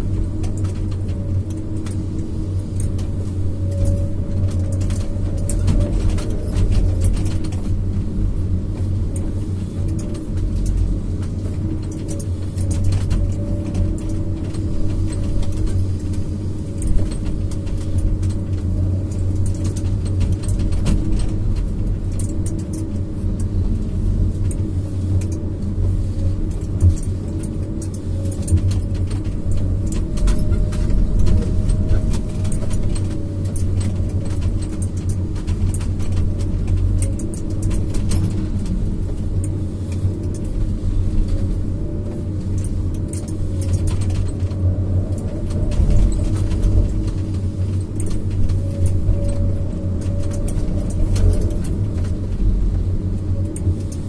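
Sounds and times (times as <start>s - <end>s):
diesel engine and hydraulics humming: 0.0s - 54.0s.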